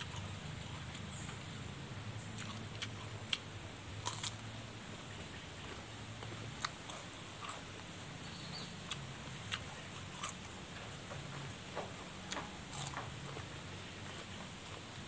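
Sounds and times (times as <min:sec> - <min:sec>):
person chewing crunchy vegetable: 0:00.0 - 0:01.6, 0:02.2 - 0:04.6, 0:05.5 - 0:08.0, 0:08.6 - 0:15.0.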